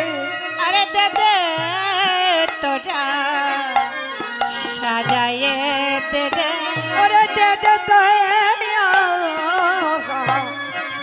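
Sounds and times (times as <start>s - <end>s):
woman singing into a microphone: 0.0s - 11.0s.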